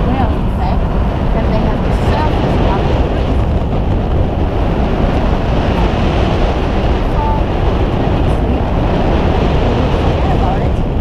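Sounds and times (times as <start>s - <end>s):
boat engine running: 0.0s - 11.0s
sea noise: 0.0s - 11.0s
wind on microphone: 0.0s - 11.0s.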